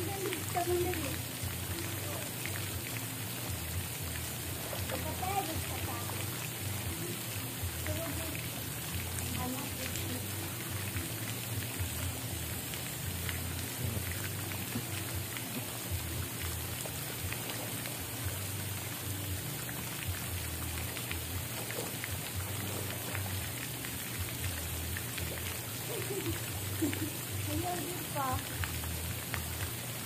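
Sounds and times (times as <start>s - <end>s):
water drips: 0.0s - 30.0s
water pattering and splashing: 0.0s - 30.0s.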